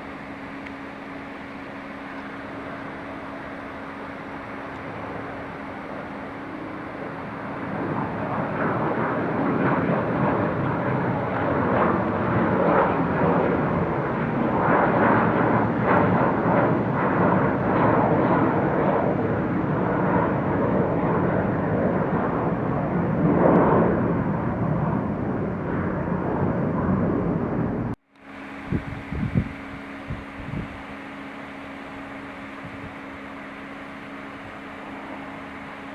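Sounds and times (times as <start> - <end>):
jet engine noise: 0.0 - 35.9.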